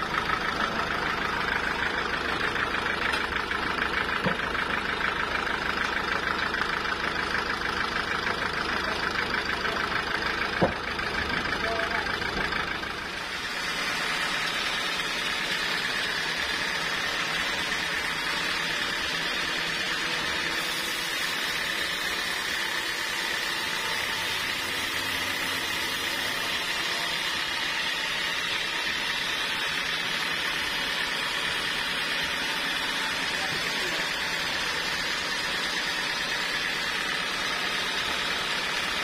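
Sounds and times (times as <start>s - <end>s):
band sawmill cutting log: 0.0s - 39.0s.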